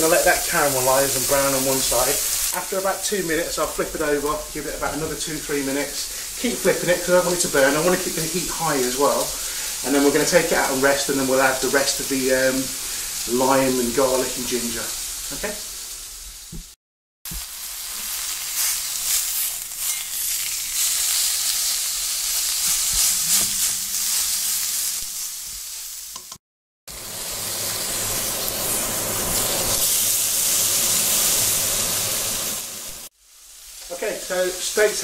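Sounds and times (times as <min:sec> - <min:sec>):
steak sizzling in a wok: 0:00.0 - 0:35.0.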